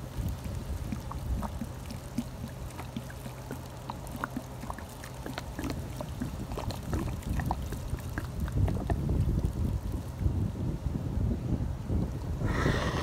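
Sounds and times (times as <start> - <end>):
soda fizzing and trickling: 0.0 - 10.5
wind on microphone: 0.0 - 13.0.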